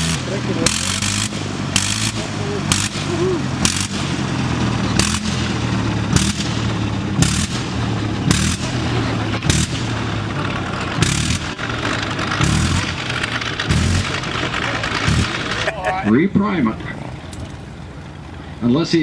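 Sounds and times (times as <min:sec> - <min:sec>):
aircraft engine running roughly: 0:00.0 - 0:18.6
engine cracks: 0:00.0 - 0:18.6.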